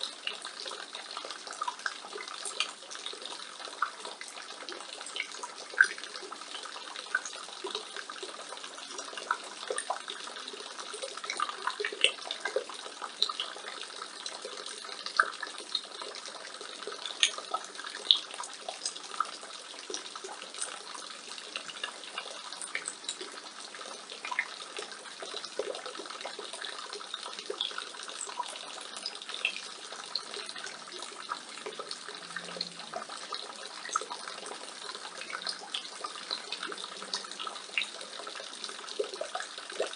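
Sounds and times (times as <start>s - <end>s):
water drips and splashes: 0.0s - 39.9s
water splashing from gutter: 0.0s - 39.9s.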